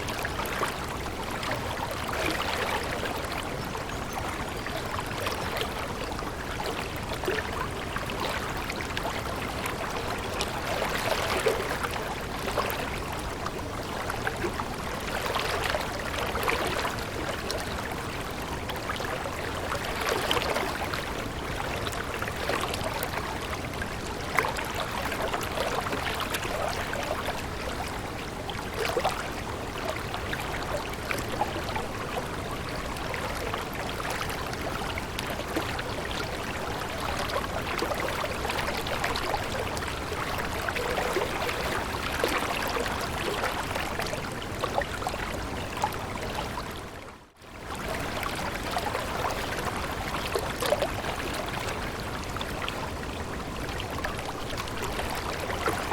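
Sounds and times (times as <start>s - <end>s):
stream water babbling: 0.0s - 55.9s.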